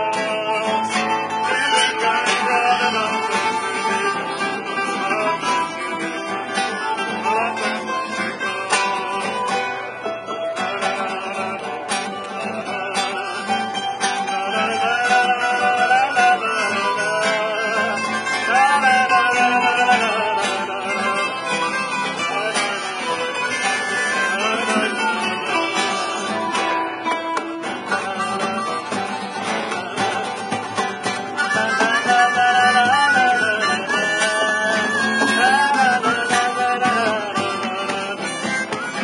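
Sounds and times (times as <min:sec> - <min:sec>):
acoustic guitars picking and strumming: 0:00.0 - 0:39.0
harmonica melody: 0:00.0 - 0:39.0.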